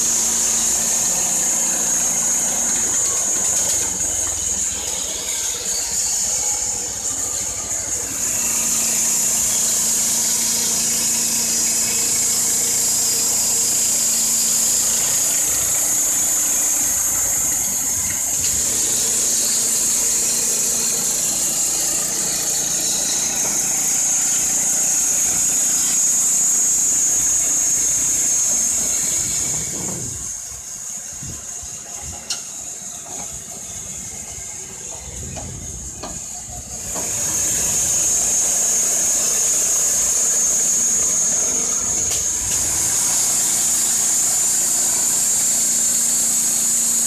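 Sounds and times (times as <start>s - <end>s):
band saw blade whining: 0.0s - 47.0s
petrol engine running: 0.0s - 47.0s.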